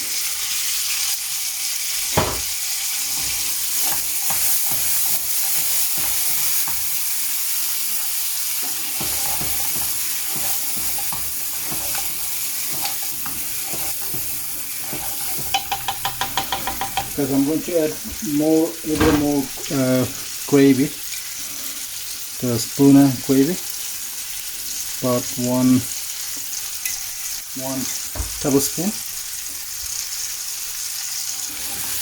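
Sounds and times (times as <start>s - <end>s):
peas sizzling in a pan: 0.0s - 32.0s.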